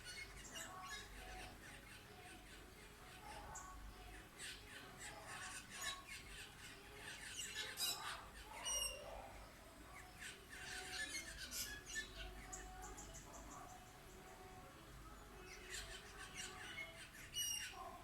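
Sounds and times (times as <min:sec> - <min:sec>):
wild birds squawking and chirping: 0:00.0 - 0:18.0.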